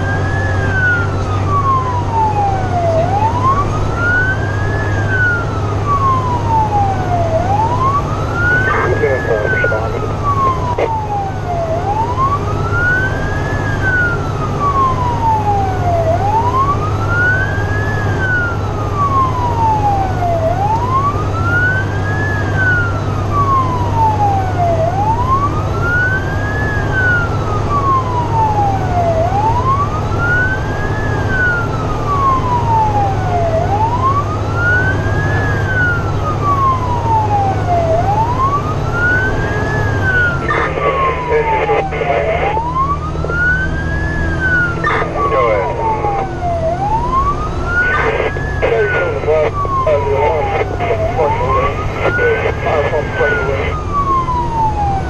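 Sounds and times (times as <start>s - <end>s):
fire truck siren wailing: 0.0s - 55.0s
truck engine drone: 0.0s - 55.0s.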